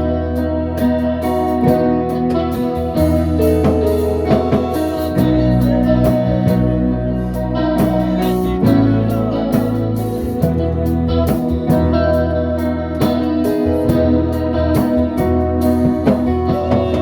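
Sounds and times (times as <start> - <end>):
bass notes: 0.0 - 17.0
electric guitar: 0.0 - 17.0.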